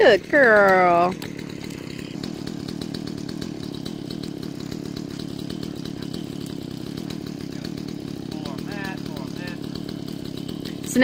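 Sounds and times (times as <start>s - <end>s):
chainsaw idling: 0.0s - 11.0s.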